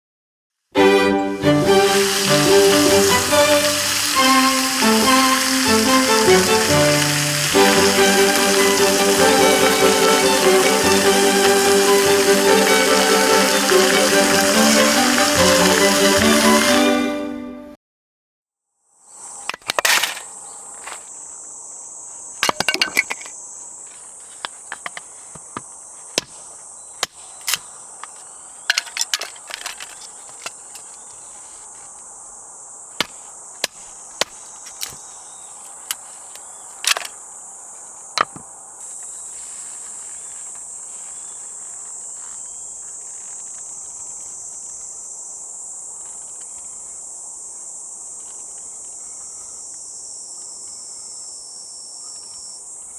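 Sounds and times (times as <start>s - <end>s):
insects chirring: 1.4s - 17.0s, 18.9s - 52.9s.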